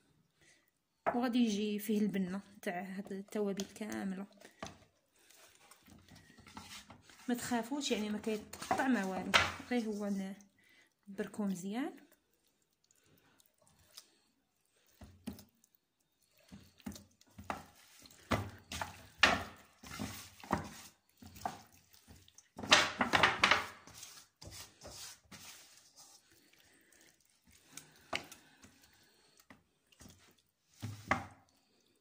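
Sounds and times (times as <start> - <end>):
wet squelching of kneaded chicken: 0.0 - 32.0.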